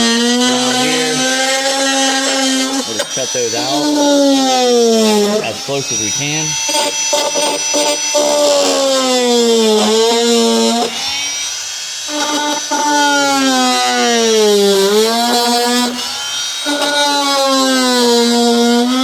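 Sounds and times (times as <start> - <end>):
power tool whining: 0.0 - 19.0.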